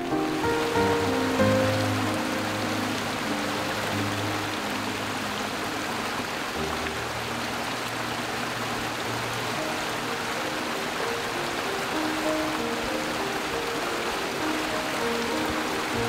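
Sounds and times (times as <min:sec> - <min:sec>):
stream rushing water: 0:00.0 - 0:16.0.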